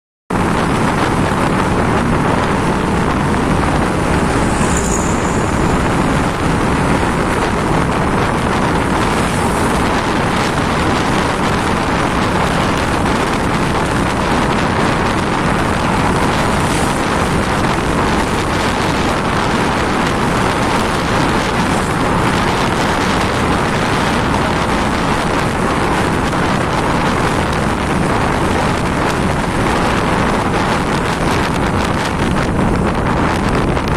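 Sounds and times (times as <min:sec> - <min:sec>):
motorcycle road and engine noise: 0:00.3 - 0:33.9
wind noise on microphone: 0:00.3 - 0:33.9.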